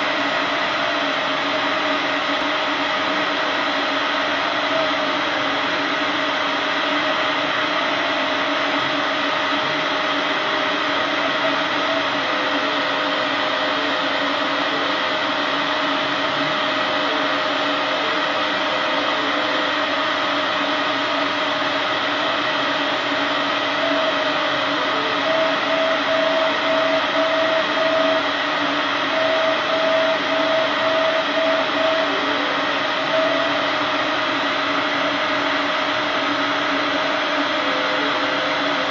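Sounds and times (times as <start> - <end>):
constant hum: 0.0 - 38.9
laser cutter fans whirring: 0.0 - 38.9
stepper motor whine: 0.0 - 38.9.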